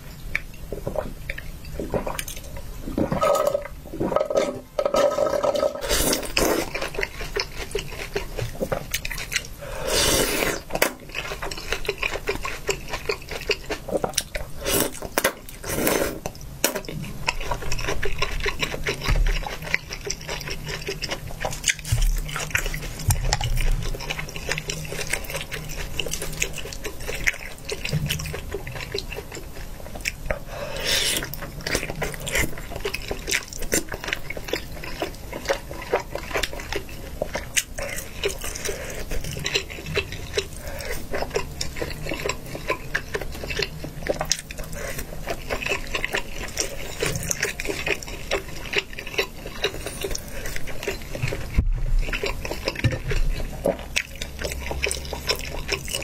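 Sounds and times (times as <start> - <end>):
wet chewing and mouth sounds: 0.0 - 56.0.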